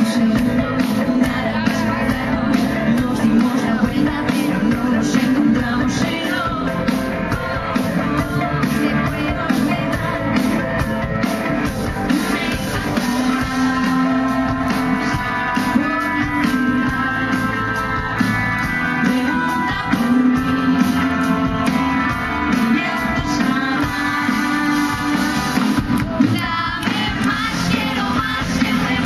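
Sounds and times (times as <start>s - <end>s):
woman singing into microphone: 0.0s - 10.8s, 12.2s - 17.5s, 18.8s - 25.2s, 26.2s - 29.0s
live pop band playing: 0.0s - 29.0s.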